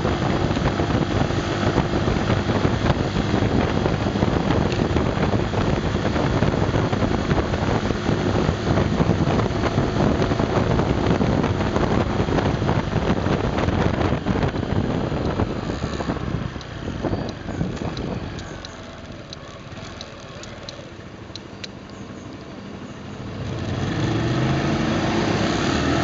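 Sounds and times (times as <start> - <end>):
wind buffeting microphone: 0.0 - 20.8
small motorcycle engine running: 0.0 - 23.3.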